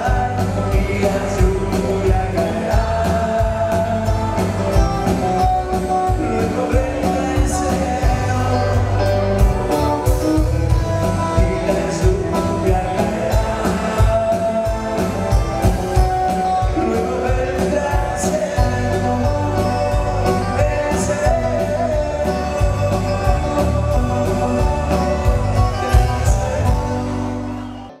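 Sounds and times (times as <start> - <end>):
drum beat: 0.0 - 27.0
electric bass: 0.0 - 28.0
keyboard: 0.0 - 28.0
man singing lead vocal: 0.0 - 28.0.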